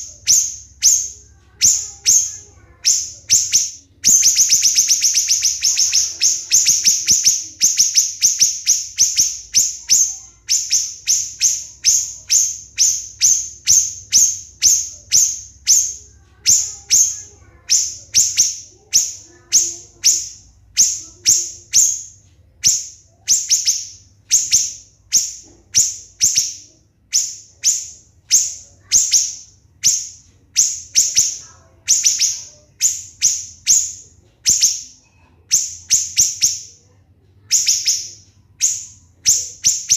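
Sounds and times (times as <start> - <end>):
bird calling shrill high notes: 0.0 - 39.9.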